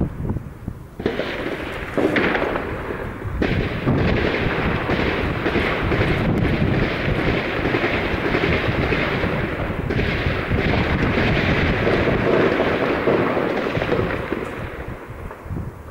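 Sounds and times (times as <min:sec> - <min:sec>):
heavy continuous gunfire: 0:01.0 - 0:15.4.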